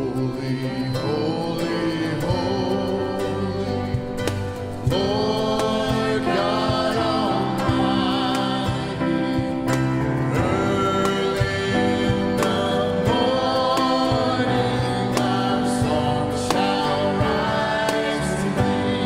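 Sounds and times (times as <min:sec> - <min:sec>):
instrumental accompaniment: 0:00.0 - 0:19.0
voices singing a hymn: 0:00.0 - 0:19.0
steady beat: 0:02.3 - 0:19.0.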